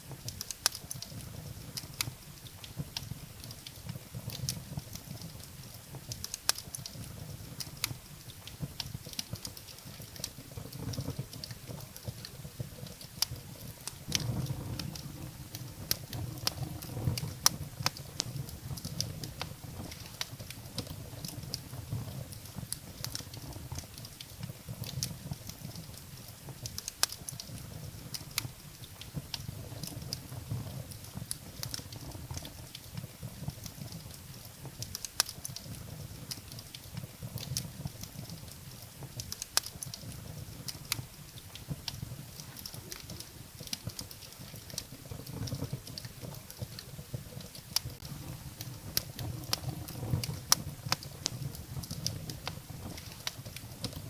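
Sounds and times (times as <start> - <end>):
firewood crackling and popping: 0.0 - 54.0
low rumble of flames: 0.0 - 54.0.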